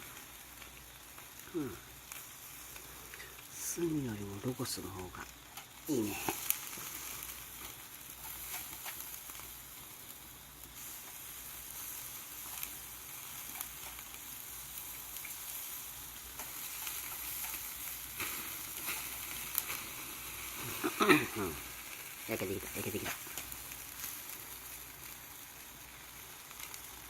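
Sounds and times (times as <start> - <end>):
fire popping and crackling: 0.0 - 27.0
meat sizzling on a grill: 0.0 - 27.0.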